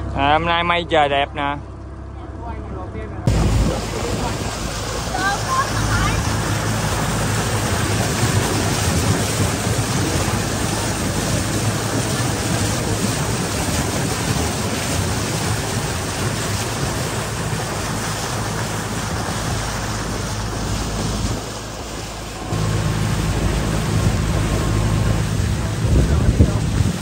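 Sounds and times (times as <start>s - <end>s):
low engine hum: 0.0s - 27.0s
wind rushing over microphone: 3.3s - 27.0s.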